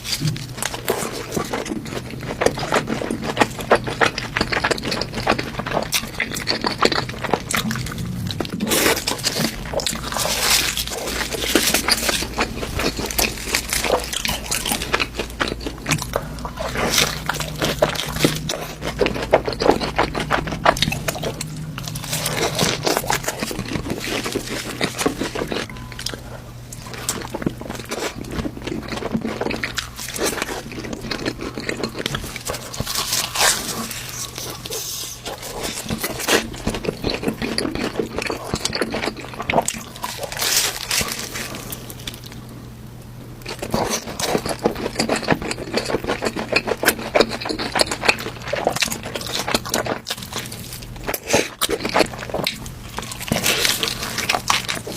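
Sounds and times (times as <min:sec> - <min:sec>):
wet chewing and crunching: 0:00.0 - 0:42.6, 0:43.3 - 0:54.9
faint low hum: 0:00.0 - 0:54.9.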